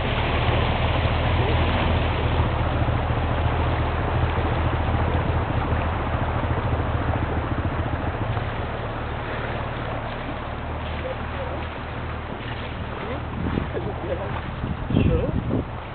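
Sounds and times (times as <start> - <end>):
car engine running: 0.0 - 15.9
rushing water and wind: 0.0 - 15.9.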